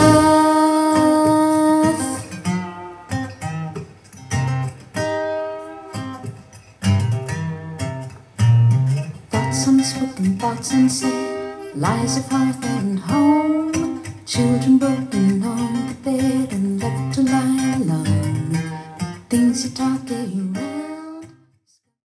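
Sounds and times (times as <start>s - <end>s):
acoustic guitar chords and notes: 0.0s - 21.7s.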